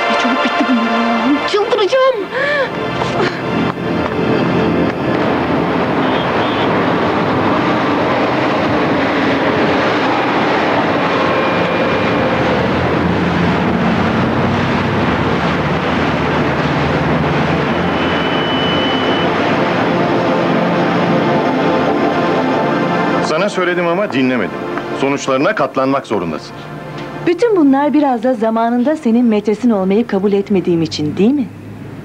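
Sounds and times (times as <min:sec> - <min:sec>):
passing vehicle engine: 0:00.0 - 0:32.0
street traffic noise: 0:00.0 - 0:32.0.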